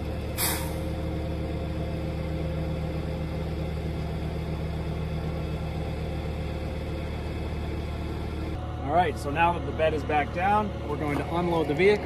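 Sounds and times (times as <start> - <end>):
tow truck engine running: 0.0 - 12.0.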